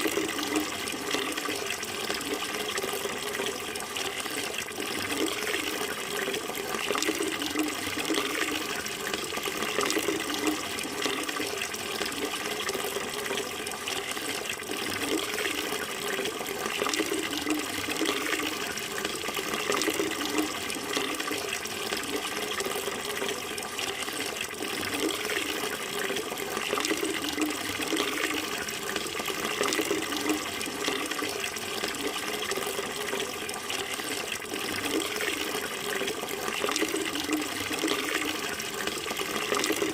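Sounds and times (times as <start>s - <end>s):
water running: 0.0s - 39.9s.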